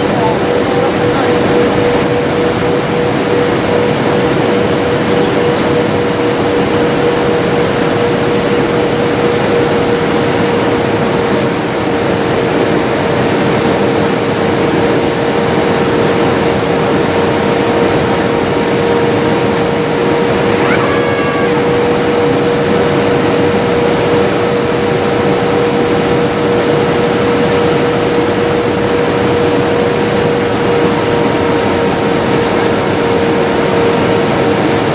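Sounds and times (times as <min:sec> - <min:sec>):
constant cabin hum: 0:00.0 - 0:34.9
jet engine and airflow noise: 0:00.0 - 0:34.9.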